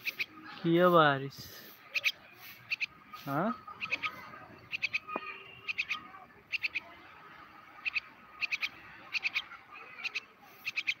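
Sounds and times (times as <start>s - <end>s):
bird chirping: 0.0s - 0.6s, 1.7s - 11.0s.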